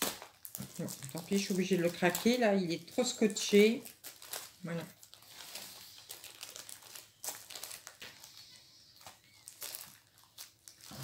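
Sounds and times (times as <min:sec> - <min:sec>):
taped packaging crinkling: 0:00.0 - 0:11.0.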